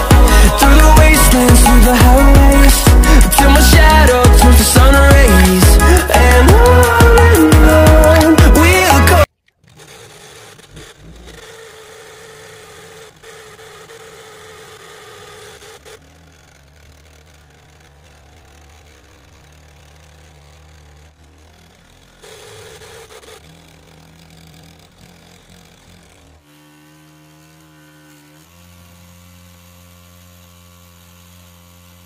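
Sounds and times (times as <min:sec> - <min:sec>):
small electric motor humming: 0:00.0 - 0:32.0.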